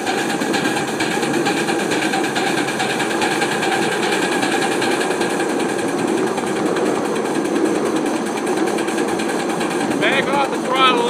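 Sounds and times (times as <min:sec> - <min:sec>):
steam locomotive exhaust chuffs: 0:00.0 - 0:11.0.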